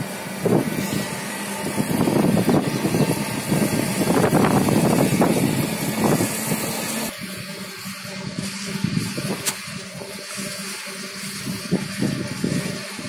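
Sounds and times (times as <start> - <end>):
wind noise: 0.0 - 7.5, 8.1 - 9.8, 11.3 - 13.0
rumbling road noise: 0.0 - 13.0.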